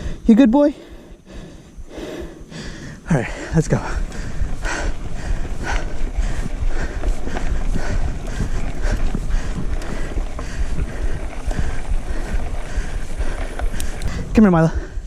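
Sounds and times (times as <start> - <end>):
bike rolling on dirt trail: 0.0 - 15.0
faint rhythmic panting: 0.0 - 15.0
wind rumbling on microphone: 0.0 - 15.0.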